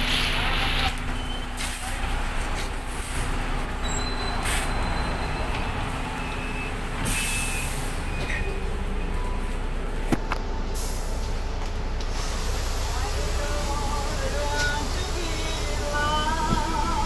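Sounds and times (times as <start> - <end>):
diesel bus engine idling: 0.0 - 17.0.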